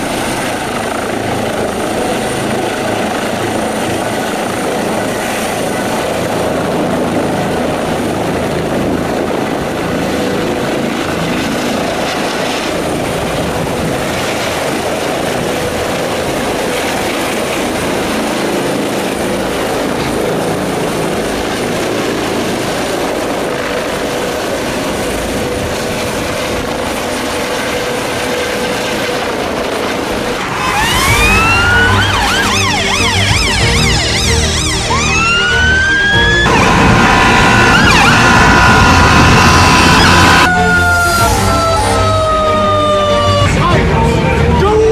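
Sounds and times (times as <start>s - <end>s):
emergency sirens wailing: 0.0s - 44.9s
helicopter engines and rotor: 0.0s - 44.9s.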